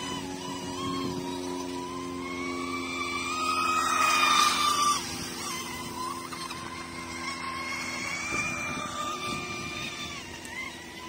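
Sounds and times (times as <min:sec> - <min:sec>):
radio-controlled boat motor whine: 0:00.0 - 0:11.0.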